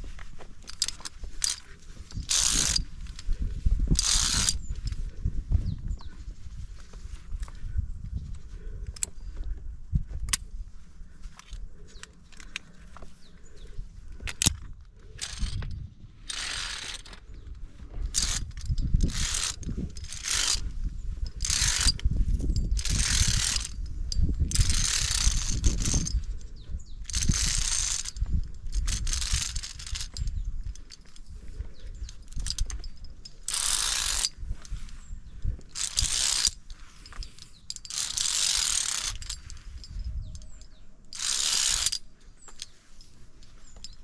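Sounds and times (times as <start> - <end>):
carabiners clicking: 0.0 - 6.2, 8.3 - 9.6, 11.3 - 44.0
carabiners scraping along steel cable: 0.0 - 7.6, 11.3 - 44.0.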